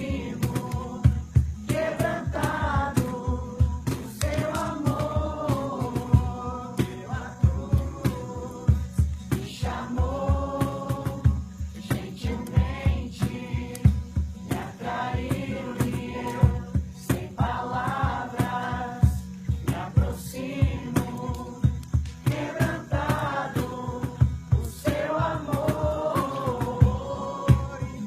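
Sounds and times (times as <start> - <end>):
group singing worship song: 0.0 - 28.0.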